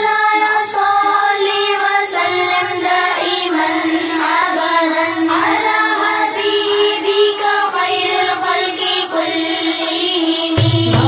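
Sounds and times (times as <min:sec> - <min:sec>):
steady held drone: 0:00.0 - 0:11.0
voices singing: 0:00.0 - 0:11.0.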